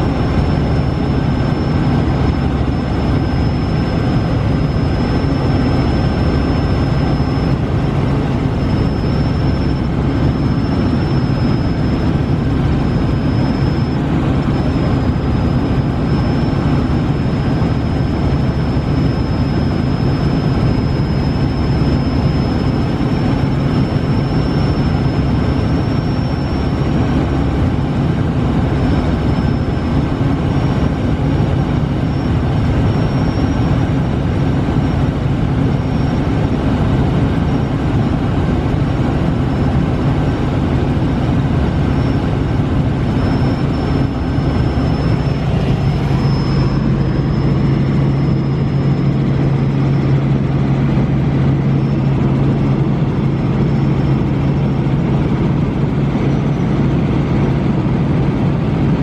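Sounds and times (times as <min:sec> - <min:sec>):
helicopter engine and rotor drone: 0:00.0 - 0:59.0
thin high whine: 0:00.0 - 0:59.0.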